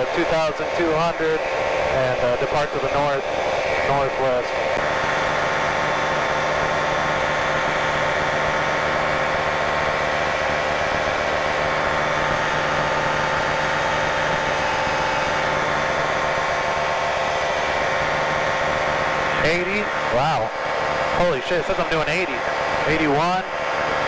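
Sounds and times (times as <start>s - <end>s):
airplane engine droning: 0.0s - 24.0s.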